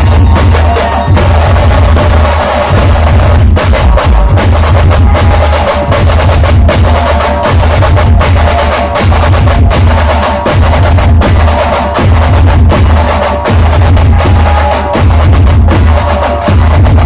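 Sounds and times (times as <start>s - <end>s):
drum band playing loudly: 0.0s - 17.0s
heavy booming bass drum: 0.0s - 17.0s.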